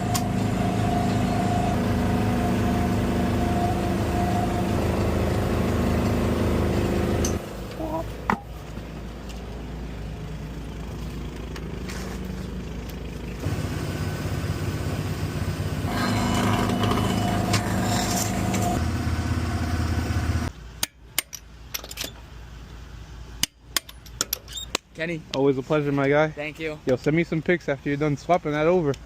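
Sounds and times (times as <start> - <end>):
engine running: 0.0 - 24.2.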